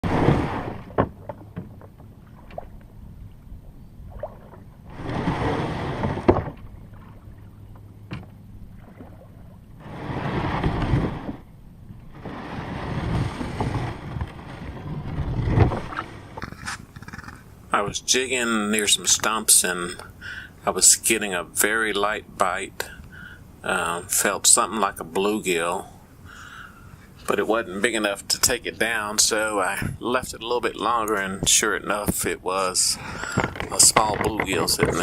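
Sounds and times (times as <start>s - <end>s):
water around a kayak: 0.0s - 35.0s
wind: 0.0s - 35.0s.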